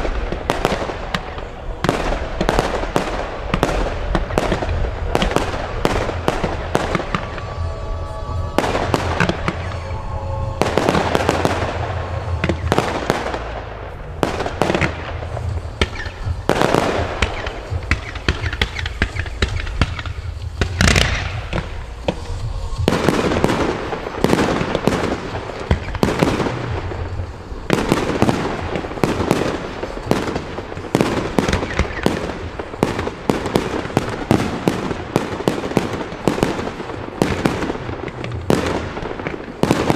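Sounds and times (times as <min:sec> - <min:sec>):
fireworks firing rapidly: 0:00.0 - 0:39.9.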